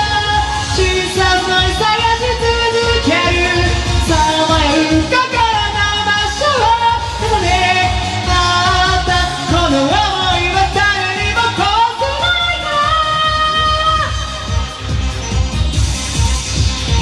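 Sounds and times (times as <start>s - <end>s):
man singing karaoke: 0.0s - 15.6s
pop karaoke backing track: 0.0s - 17.0s.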